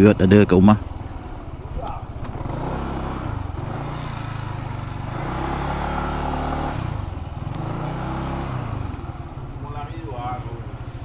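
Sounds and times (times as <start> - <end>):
scooter engine at low revs: 0.0 - 11.0.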